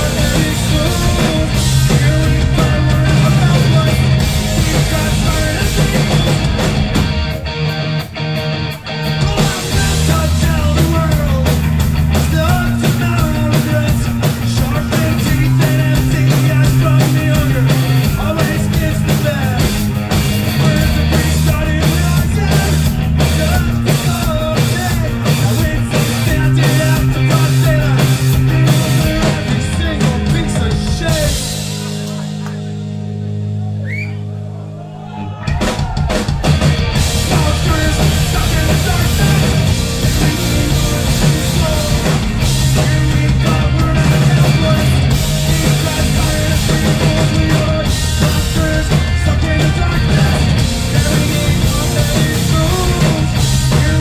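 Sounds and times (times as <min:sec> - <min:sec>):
drum kits pounding: 0:00.0 - 0:07.7, 0:09.0 - 0:33.3, 0:35.2 - 0:54.0
bass guitar: 0:00.0 - 0:54.0
distorted electric guitar: 0:00.0 - 0:54.0.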